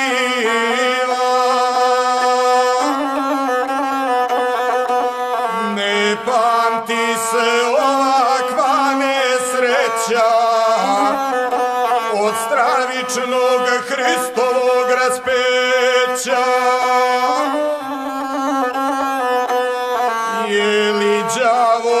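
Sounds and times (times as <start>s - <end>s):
bowed folk fiddle melody: 0.0s - 22.0s.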